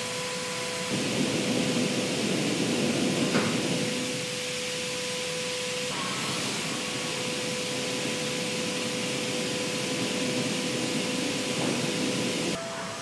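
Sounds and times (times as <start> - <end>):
paint sprayer hissing: 0.8 - 12.6.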